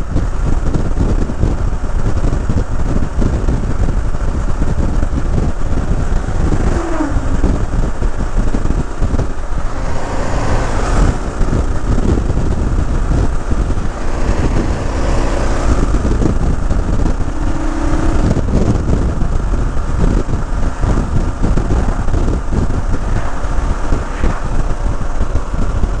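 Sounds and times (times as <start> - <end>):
motorcycle engine at speed: 0.0 - 26.0
wind rumble on microphone: 0.0 - 26.0.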